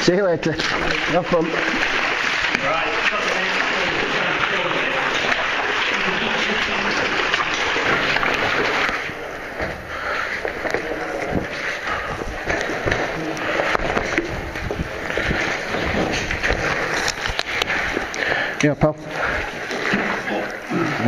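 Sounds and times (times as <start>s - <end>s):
water rushing and spraying: 0.4s - 21.0s.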